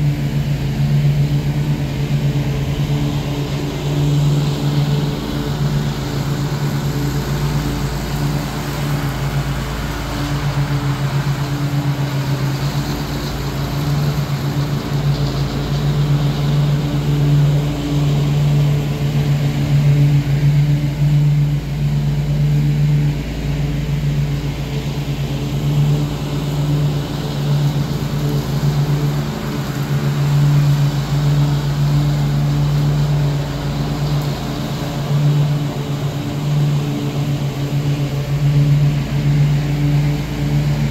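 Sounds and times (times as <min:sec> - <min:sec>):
riding mower engine droning: 0:00.0 - 0:40.9.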